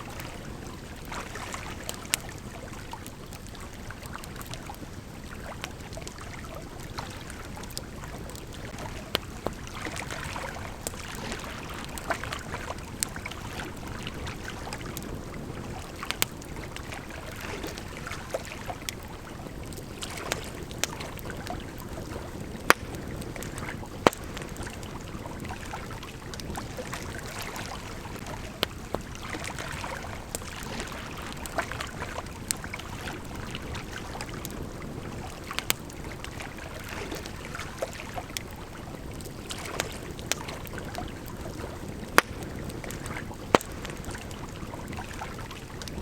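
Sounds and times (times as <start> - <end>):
campfire crackling: 0.0 - 46.0
gently flowing river: 0.0 - 46.0.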